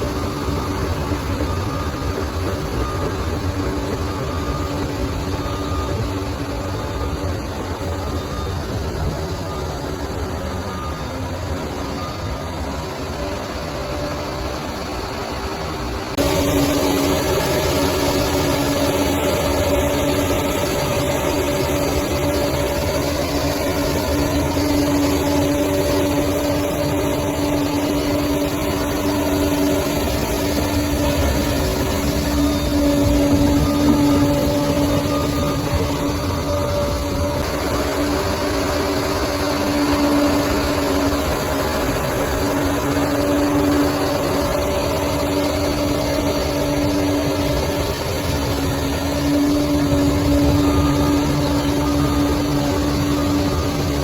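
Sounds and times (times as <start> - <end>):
bulldozer engine running: 0.0 - 54.0.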